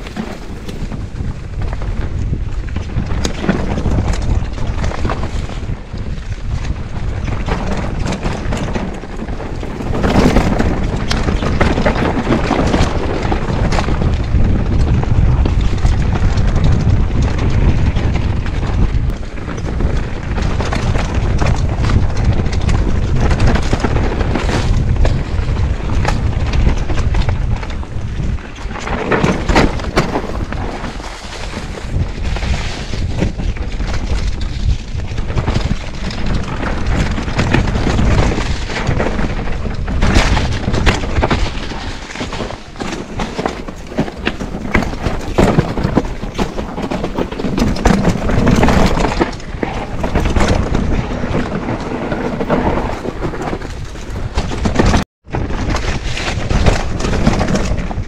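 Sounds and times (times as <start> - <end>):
bike knocking and rattling: 0.0 - 58.0
tyres over dirt and rocks: 0.0 - 58.0
wind buffeting microphone: 0.0 - 58.0.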